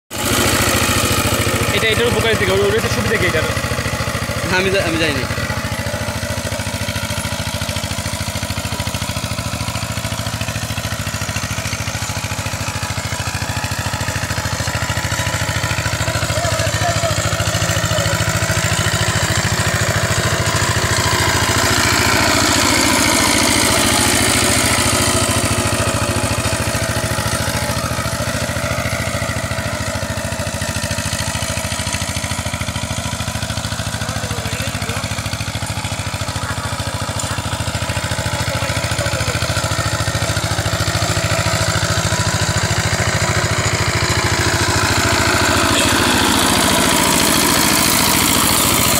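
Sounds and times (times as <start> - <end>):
power tiller engine running: 0.1 - 48.9.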